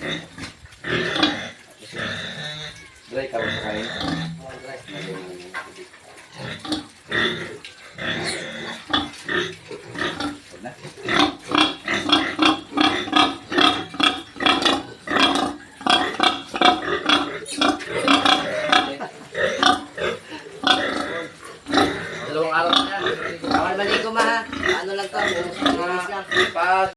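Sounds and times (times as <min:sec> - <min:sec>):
pigs squealing: 0:00.0 - 0:26.9.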